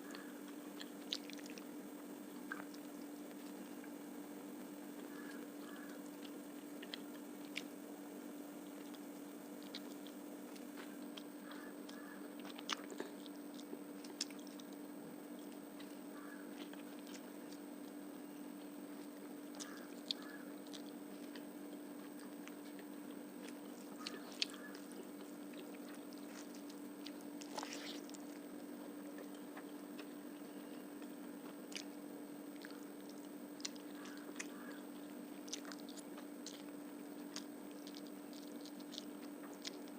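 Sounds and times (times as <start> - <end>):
wet chewing mouth sounds: 0.0 - 4.0, 4.9 - 7.8, 8.6 - 17.7, 18.6 - 28.5, 31.0 - 39.9.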